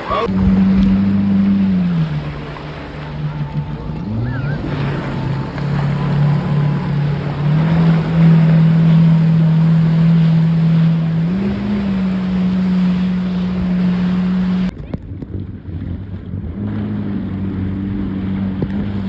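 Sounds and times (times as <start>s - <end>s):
motorboat engine running: 0.0s - 19.0s
rushing water: 0.0s - 19.0s
wind buffeting microphone: 0.0s - 19.0s.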